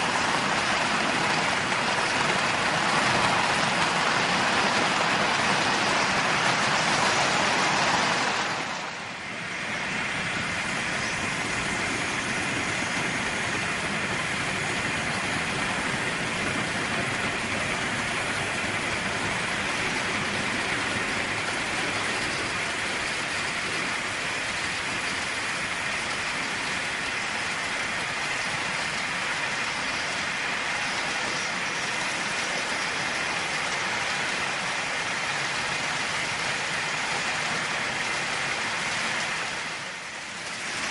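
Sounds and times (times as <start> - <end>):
model train wheels rattling on track: 0.0 - 40.9.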